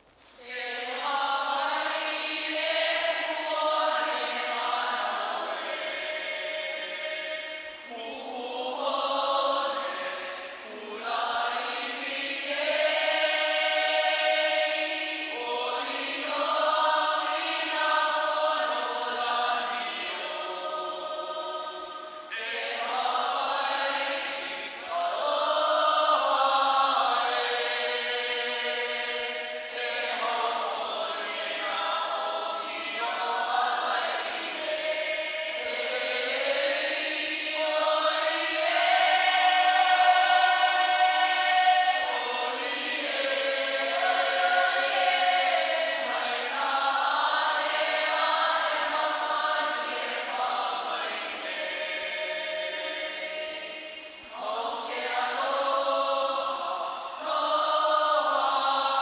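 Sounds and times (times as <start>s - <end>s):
choir singing held chords: 0.0s - 59.0s.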